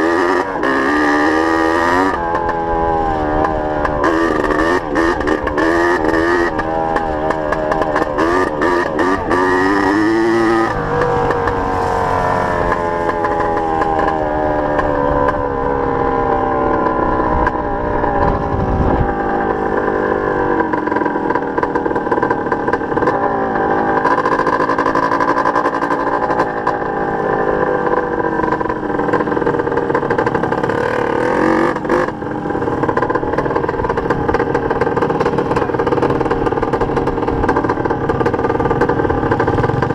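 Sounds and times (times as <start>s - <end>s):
dirt bike engine accelerating: 0.0s - 39.9s.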